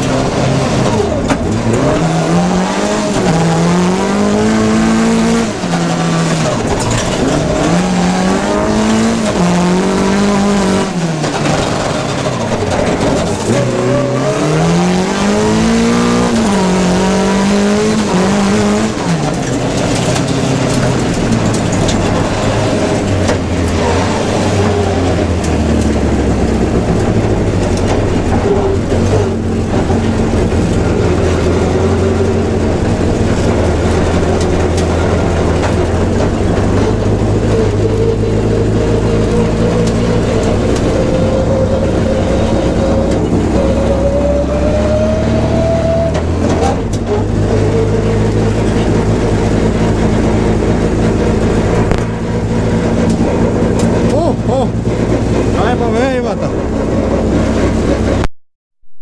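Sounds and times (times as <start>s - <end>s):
deep rumble: 0.0s - 58.3s
rally car engine revving: 0.0s - 58.3s.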